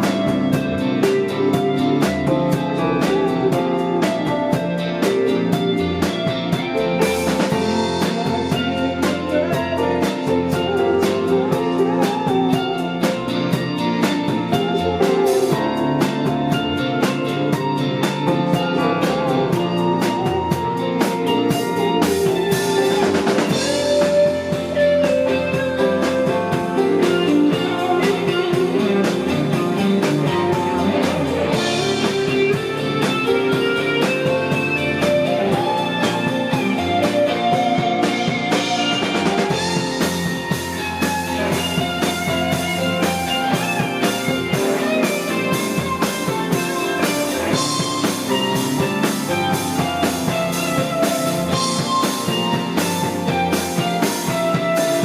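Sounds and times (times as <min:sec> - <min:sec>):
electric guitar: 0:00.0 - 0:55.0
steady drum beat: 0:00.0 - 0:55.0.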